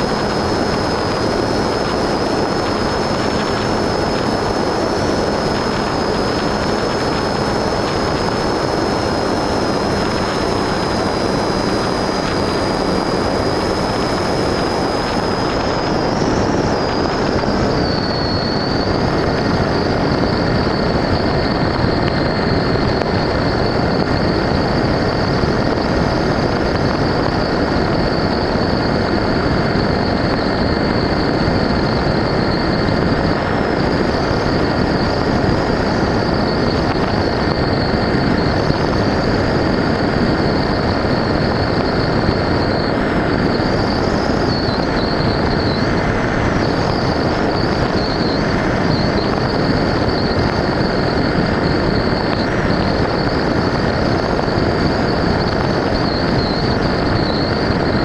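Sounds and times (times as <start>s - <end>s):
high motor whine: 0.0s - 58.0s
propeller noise: 0.0s - 58.0s
wind rushing: 0.0s - 58.0s.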